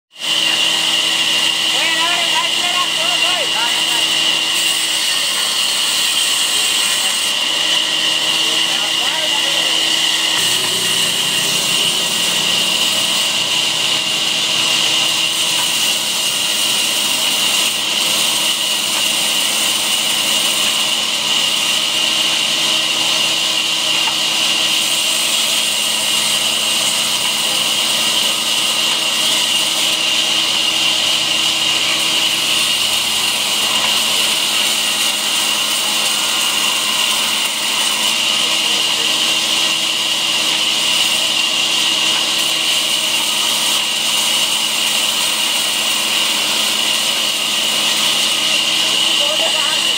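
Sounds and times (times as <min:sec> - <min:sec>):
band saw cutting wood: 0:00.1 - 0:49.9.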